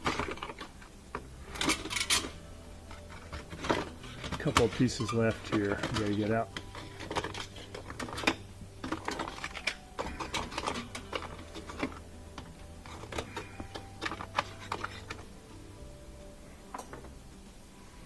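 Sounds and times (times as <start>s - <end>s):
ice chunks clicking and knocking: 0.0s - 15.3s
faint low hum: 0.0s - 18.0s.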